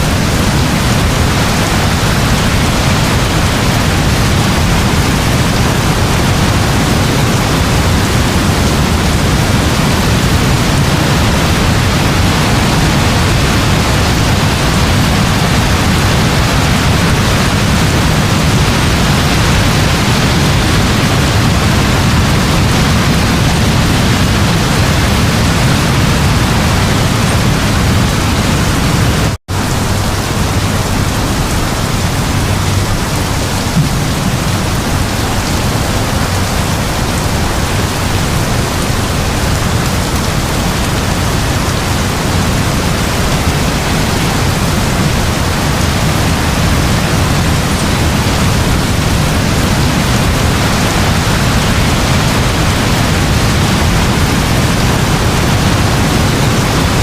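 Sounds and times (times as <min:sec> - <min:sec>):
distant thunder rumble: 0:00.0 - 0:57.0
heavy rain: 0:00.0 - 0:57.0.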